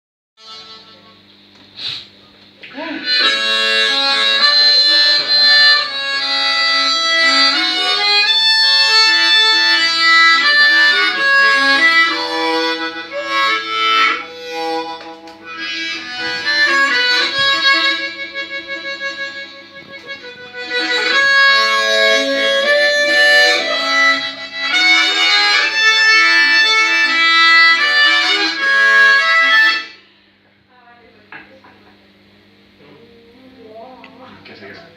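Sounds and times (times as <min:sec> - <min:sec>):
blues harmonica playing: 0:00.4 - 0:01.1, 0:02.8 - 0:30.2.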